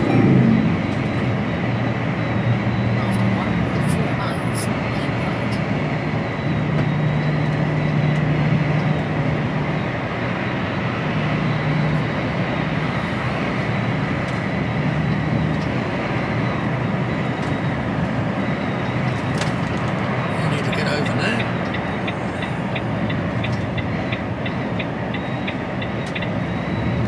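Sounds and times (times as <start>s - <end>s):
diesel engine drone: 0.0s - 27.0s
road and wind noise: 0.0s - 27.0s.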